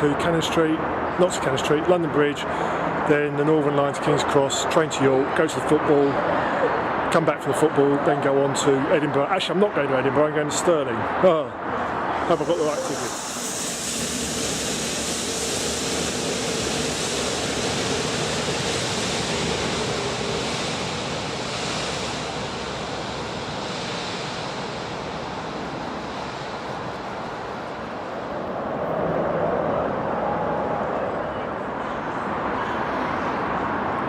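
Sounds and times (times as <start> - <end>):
train rushing past: 0.0 - 34.0.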